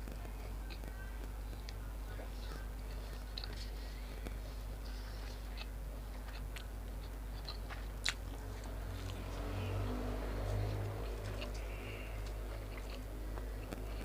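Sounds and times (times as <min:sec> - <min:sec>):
steady low hum: 0:00.0 - 0:14.0
person chewing food: 0:00.1 - 0:14.0.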